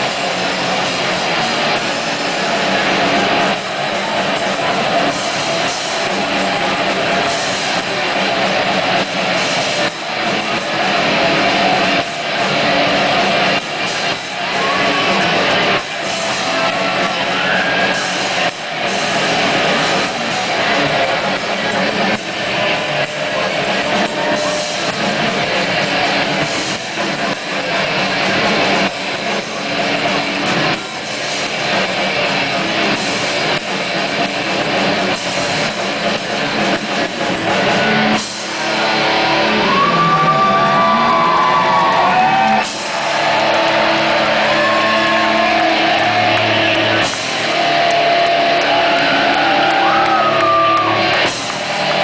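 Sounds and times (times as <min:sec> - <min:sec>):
drum kit: 0:00.0 - 0:52.0
electric guitars: 0:00.0 - 0:52.0.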